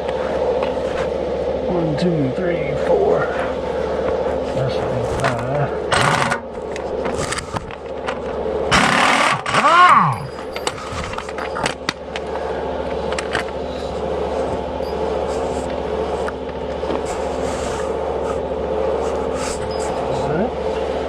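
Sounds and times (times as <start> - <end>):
machine engine running: 0.0 - 21.0.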